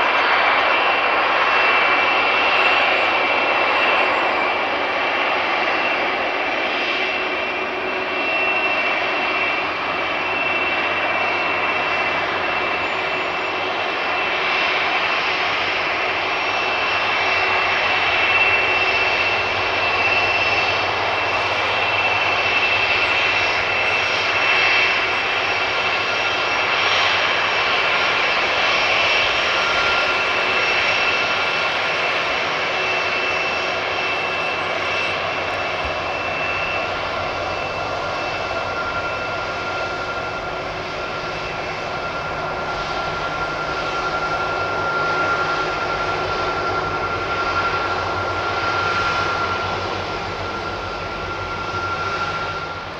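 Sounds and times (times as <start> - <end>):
jet engines rushing and whining: 0.0 - 52.9.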